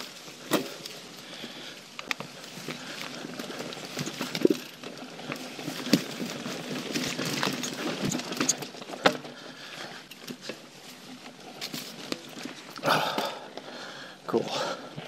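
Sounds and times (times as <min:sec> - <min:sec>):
bike knocking and rattling: 0:00.0 - 0:14.0
bike tyres crunching on leaves: 0:00.0 - 0:14.1.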